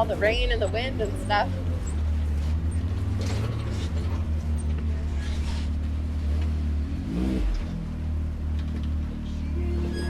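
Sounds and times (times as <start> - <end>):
off-road vehicle engine running: 0.0 - 10.0.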